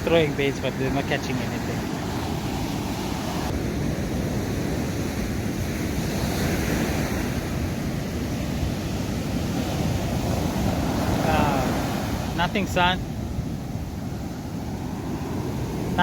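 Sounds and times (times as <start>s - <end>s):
surf washing against rocks: 0.0s - 16.0s.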